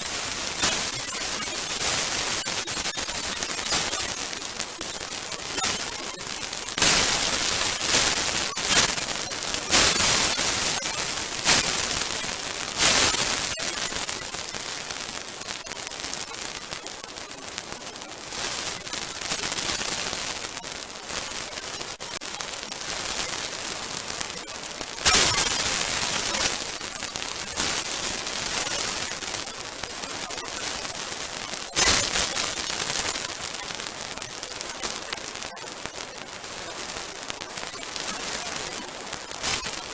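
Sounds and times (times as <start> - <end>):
bonfire hissing and crackling: 0.0 - 39.9.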